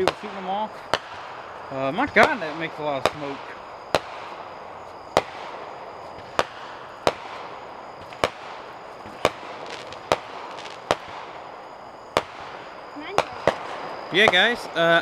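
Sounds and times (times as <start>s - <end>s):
firework bangs: 0.0s - 15.0s
steady background hiss: 0.0s - 15.0s.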